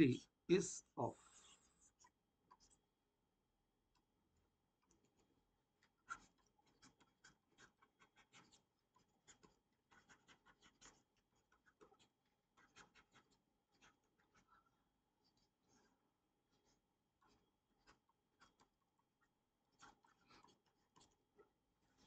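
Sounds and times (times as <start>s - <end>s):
stylus scratching on tablet: 1.2s - 2.9s, 4.8s - 22.0s.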